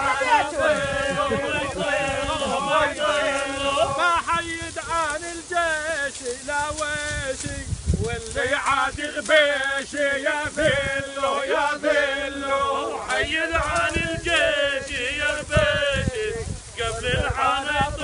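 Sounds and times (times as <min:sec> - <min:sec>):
men chanting together: 0:00.0 - 0:06.1, 0:08.3 - 0:18.0.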